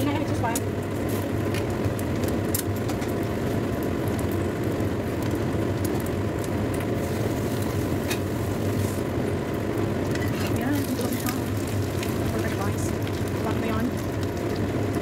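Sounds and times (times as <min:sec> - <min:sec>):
liquid simmering in a wok: 0:00.0 - 0:15.0
small pops and crackles: 0:00.0 - 0:15.0.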